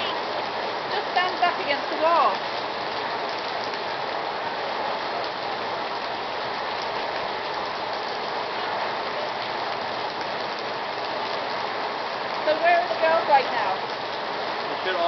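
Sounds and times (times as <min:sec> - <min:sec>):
torrential rain on pavement: 0:00.0 - 0:15.0.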